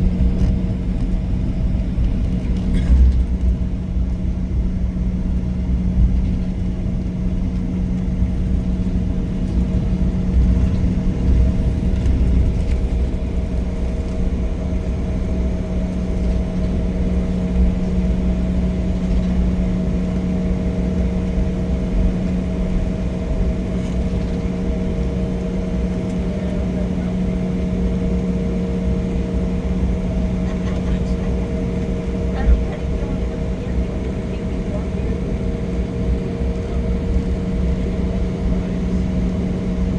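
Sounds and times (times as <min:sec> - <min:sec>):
jet cabin engine hum: 0:00.0 - 0:39.9
low wavering rumble: 0:00.0 - 0:39.9.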